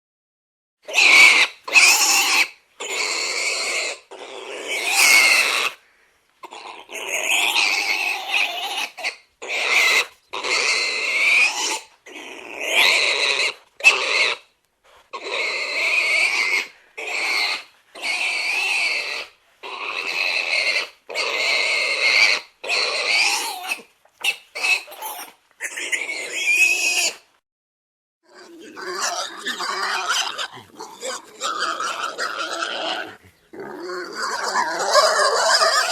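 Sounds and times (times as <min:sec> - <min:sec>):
pig squealing: 0:00.8 - 0:05.8, 0:06.4 - 0:14.5, 0:15.1 - 0:27.2, 0:28.3 - 0:35.9.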